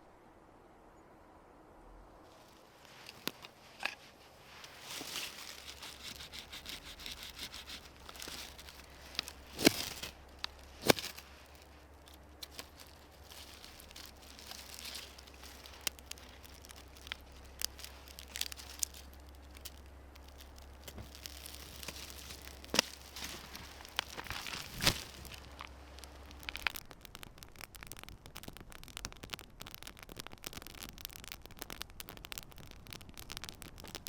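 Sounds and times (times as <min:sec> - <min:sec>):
rustling and crinkling gear: 0:02.2 - 0:34.0.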